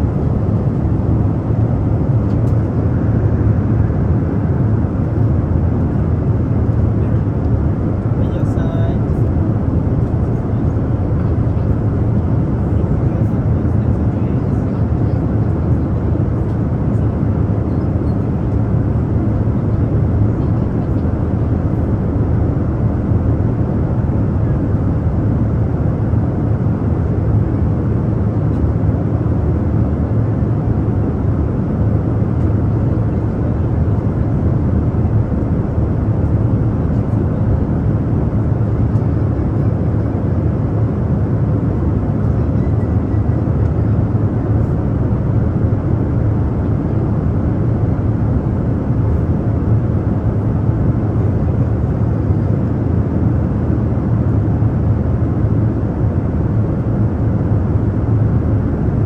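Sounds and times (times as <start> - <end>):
engine and airflow rush: 0.0 - 59.0.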